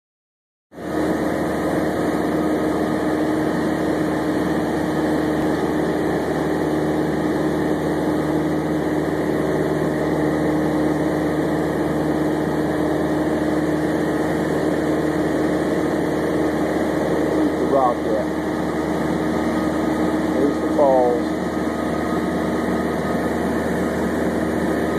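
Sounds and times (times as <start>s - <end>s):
aircraft engine droning in cabin: 0.8s - 24.9s.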